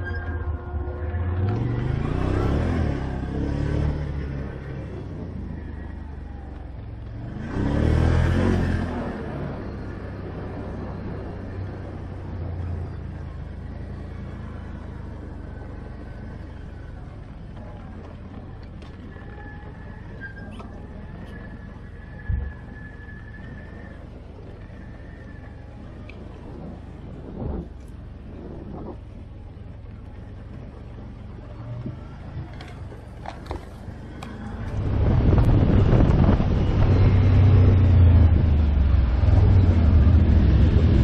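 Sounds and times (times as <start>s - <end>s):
atv engine revving: 0.0s - 41.0s.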